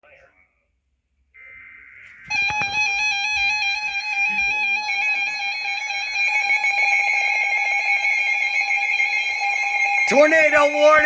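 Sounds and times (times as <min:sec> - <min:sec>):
warbling electronic alarm tone: 0:01.3 - 0:11.0.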